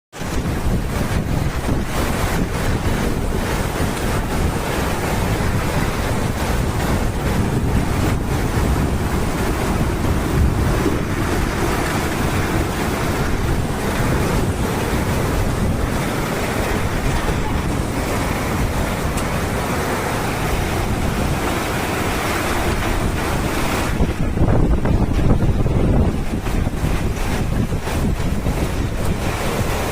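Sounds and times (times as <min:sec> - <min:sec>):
floodwater rushing: 0:00.1 - 0:29.9
wind buffeting microphone: 0:00.1 - 0:29.9.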